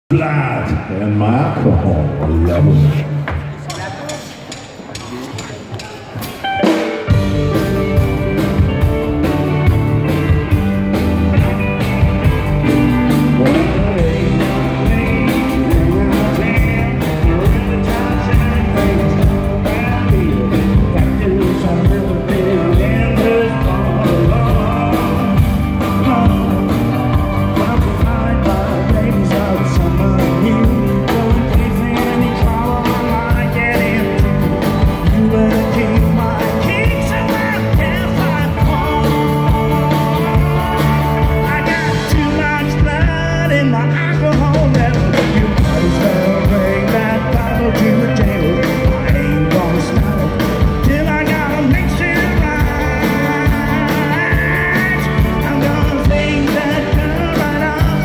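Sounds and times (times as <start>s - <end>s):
live country band playing: 0.1s - 58.0s.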